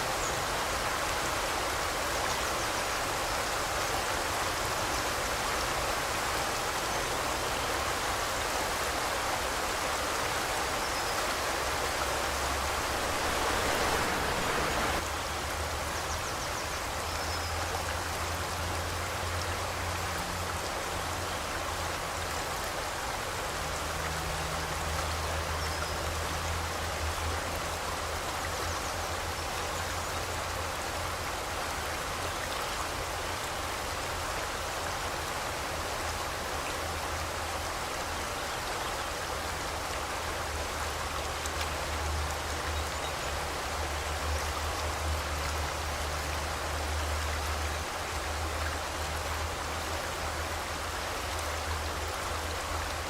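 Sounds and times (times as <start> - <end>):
river water over rocks: 0.0 - 53.0.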